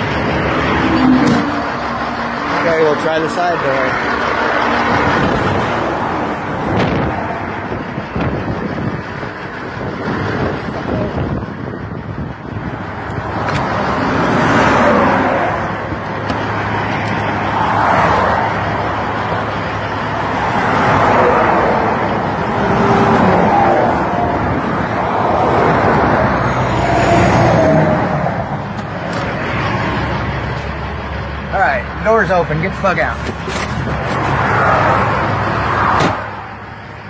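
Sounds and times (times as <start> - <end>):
vehicles passing close by: 0.0 - 37.0.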